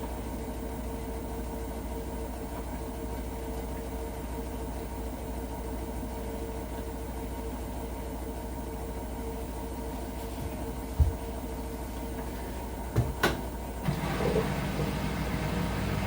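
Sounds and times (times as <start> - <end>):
mid-pitched whine: 0.0 - 16.0
washing machine humming: 0.0 - 16.0.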